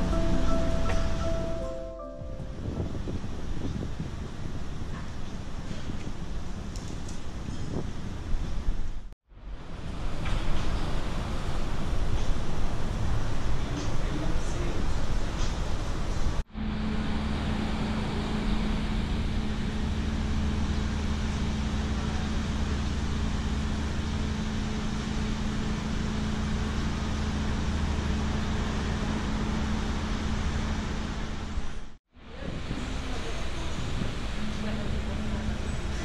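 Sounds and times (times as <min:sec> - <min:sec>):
low machine hum: 0:00.0 - 0:05.6, 0:09.4 - 0:36.0
street traffic: 0:00.0 - 0:36.0.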